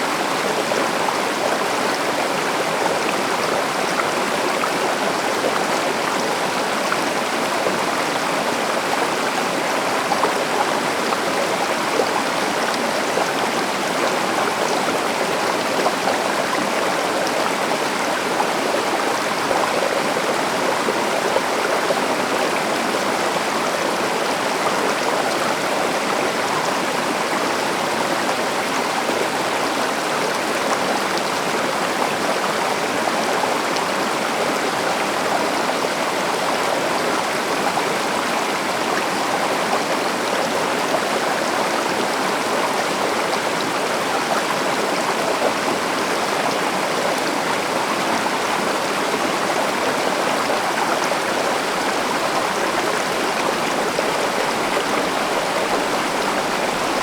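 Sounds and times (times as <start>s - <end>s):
river water rushing over rocks: 0.1s - 57.0s.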